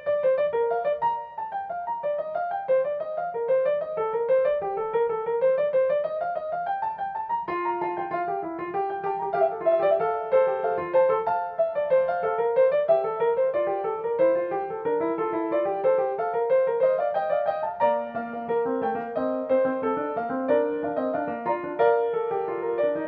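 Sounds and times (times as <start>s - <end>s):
background piano music: 0.0s - 23.0s.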